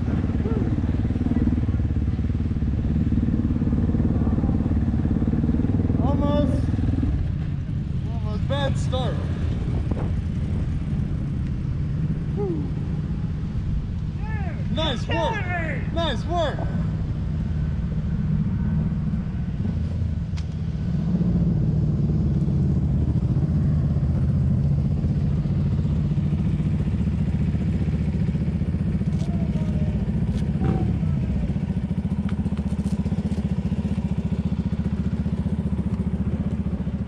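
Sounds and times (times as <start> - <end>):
motorcycle engine idling: 0.0 - 21.0, 21.6 - 37.0.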